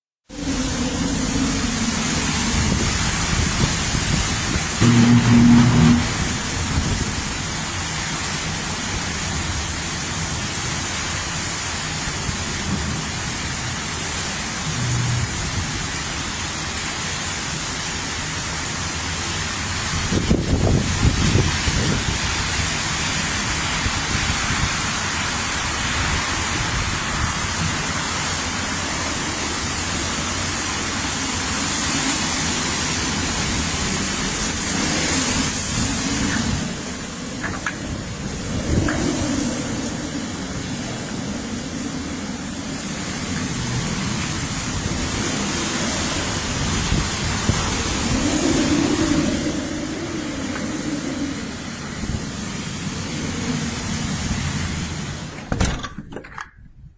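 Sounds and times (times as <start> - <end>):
wind-driven rain: 0.2 - 56.9.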